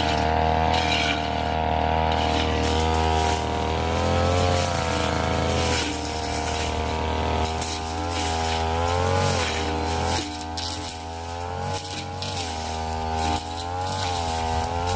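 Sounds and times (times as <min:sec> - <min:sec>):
brush cutter engine running: 0:00.0 - 0:14.9.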